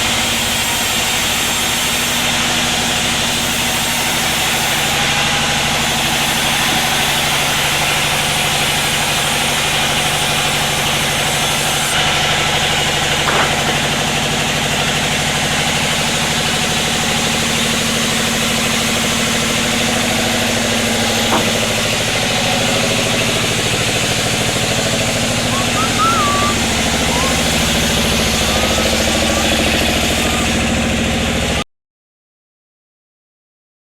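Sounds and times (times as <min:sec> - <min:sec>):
sawmill engine running: 0:00.0 - 0:31.6.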